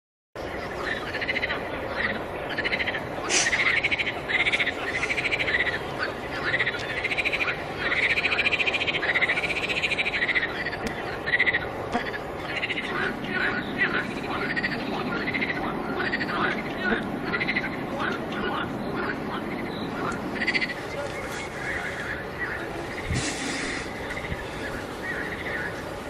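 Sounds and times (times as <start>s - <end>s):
frogs croaking in chorus: 0.4s - 26.0s
steady rushing background: 0.4s - 26.0s.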